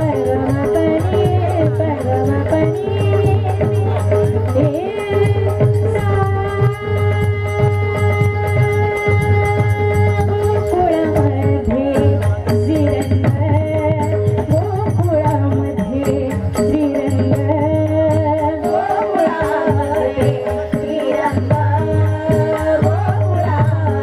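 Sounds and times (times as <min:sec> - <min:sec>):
women singing with chorus: 0:00.0 - 0:14.2, 0:14.8 - 0:24.0
harmonium: 0:00.0 - 0:24.0
steady percussion beat: 0:00.0 - 0:24.0.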